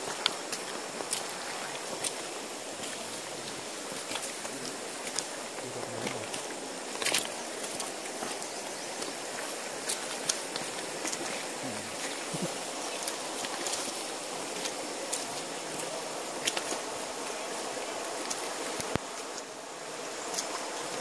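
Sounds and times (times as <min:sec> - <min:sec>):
footsteps on wet stones: 0:00.0 - 0:19.5, 0:20.2 - 0:21.0
stream running over rocks: 0:00.0 - 0:21.0.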